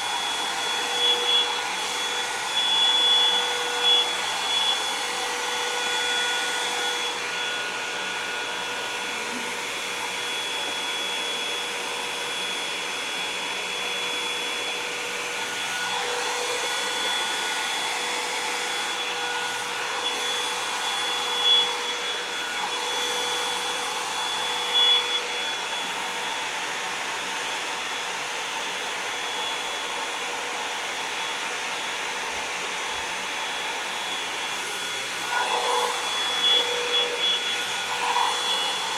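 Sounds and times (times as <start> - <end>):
hair dryer blowing with whine: 0.0 - 38.9.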